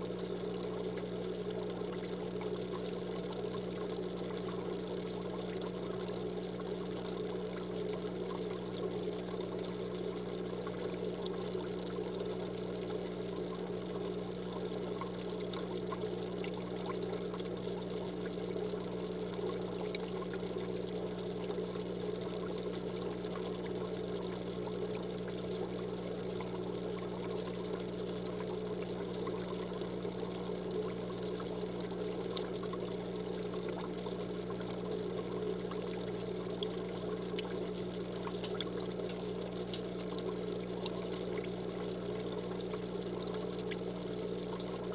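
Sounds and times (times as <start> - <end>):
constant low hum: 0.0 - 44.9
water trickling: 0.0 - 44.9.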